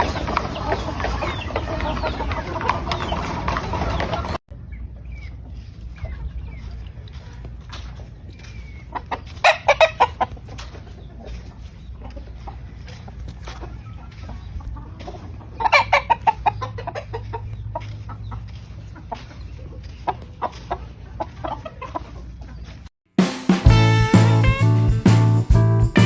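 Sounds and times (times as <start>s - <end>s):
chickens clucking: 0.0s - 4.4s, 5.0s - 22.9s.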